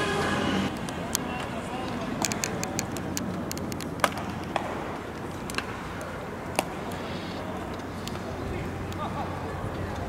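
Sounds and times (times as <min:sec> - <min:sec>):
background murmur: 0:00.0 - 0:10.0.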